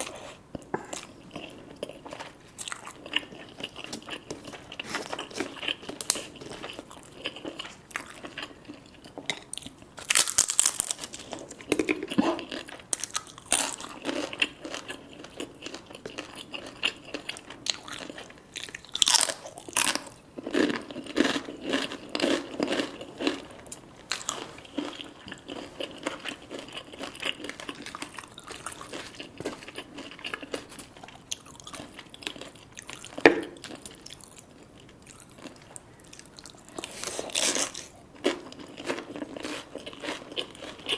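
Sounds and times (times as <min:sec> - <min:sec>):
person crunching crispy food: 0:01.0 - 0:09.0, 0:09.6 - 0:40.9.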